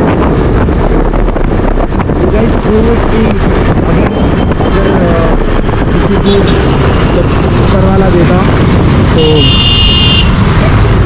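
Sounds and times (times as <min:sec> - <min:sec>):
road and vehicle noise: 0:00.0 - 0:11.0
wind buffeting microphone: 0:00.0 - 0:11.0.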